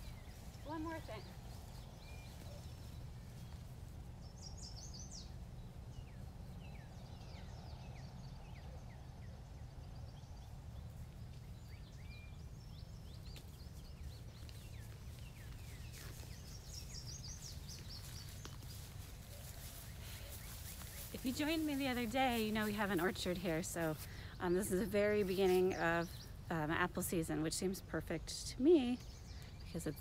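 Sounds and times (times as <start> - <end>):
birds chirping and singing: 0.0 - 30.0.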